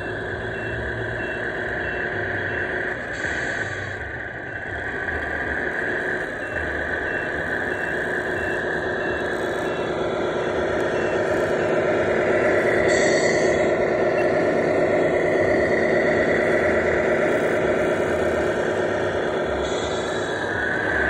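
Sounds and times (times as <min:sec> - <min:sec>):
toy truck engine idling: 0:00.0 - 0:21.0.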